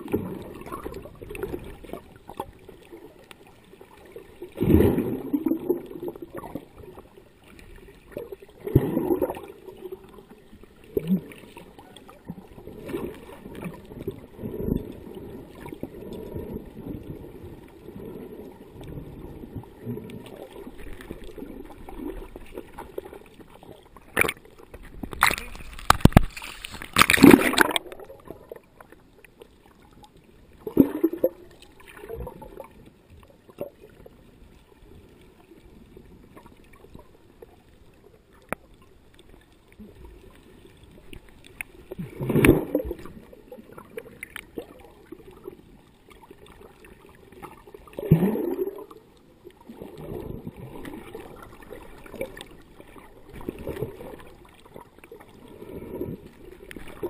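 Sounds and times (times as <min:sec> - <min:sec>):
muffled splashing and bubbling: 0:00.0 - 0:57.0
water sloshing underwater: 0:00.0 - 0:57.0.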